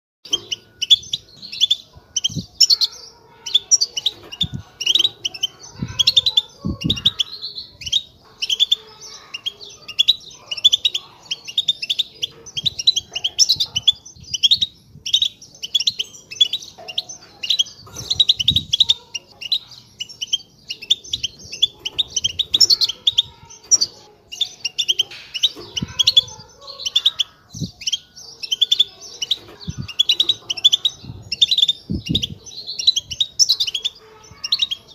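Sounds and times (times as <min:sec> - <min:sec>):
finches twittering: 0:00.3 - 0:34.9.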